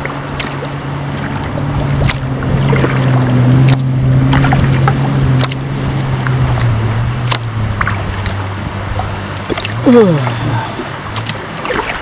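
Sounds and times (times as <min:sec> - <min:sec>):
kayak paddle strokes: 0:00.0 - 0:12.0
water splashing and dripping: 0:00.0 - 0:12.0.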